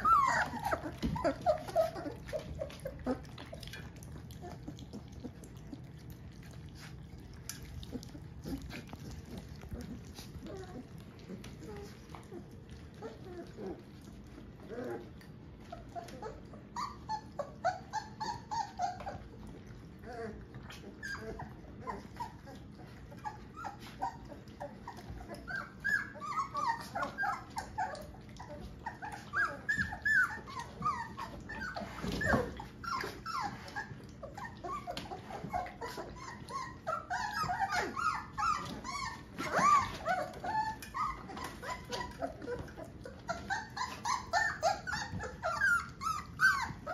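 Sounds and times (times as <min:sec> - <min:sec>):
puppies whimpering and squeaking: 0:00.0 - 0:46.9
puppy yelp: 0:00.0 - 0:46.9.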